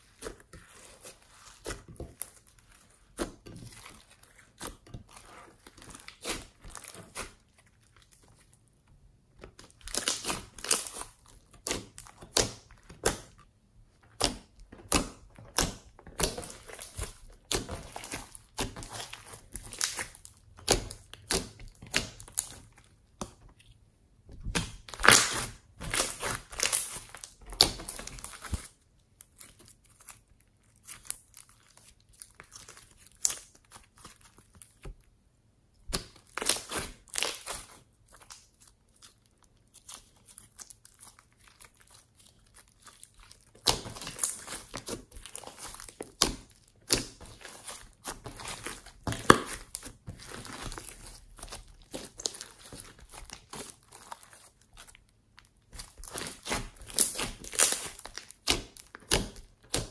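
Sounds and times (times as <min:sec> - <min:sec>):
hands squishing sticky slime: 0:00.0 - 0:35.2, 0:35.8 - 0:59.9.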